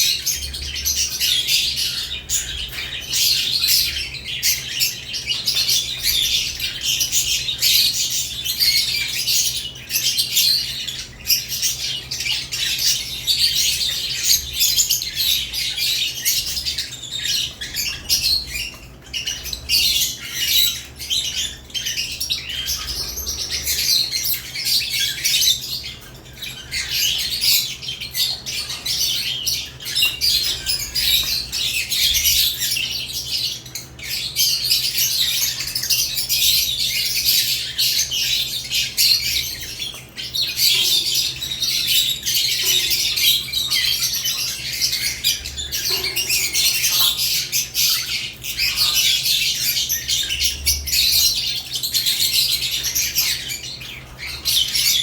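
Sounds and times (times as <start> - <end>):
lovebirds chirping and squawking: 0.0 - 55.0.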